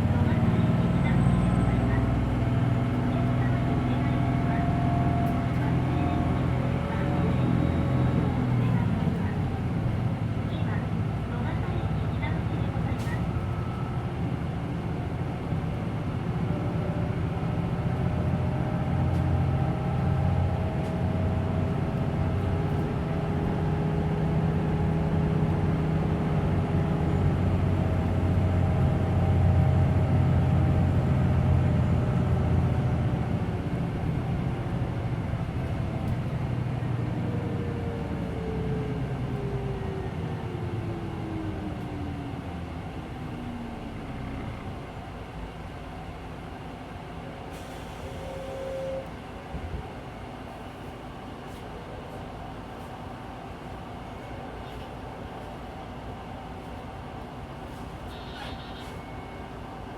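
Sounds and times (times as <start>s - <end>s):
bus engine deep drone: 0.0s - 59.9s.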